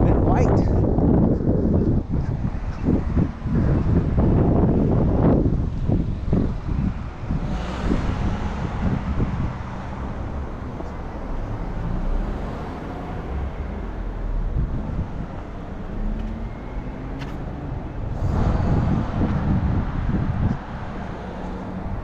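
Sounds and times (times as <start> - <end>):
cars driving past: 0.8 - 22.0.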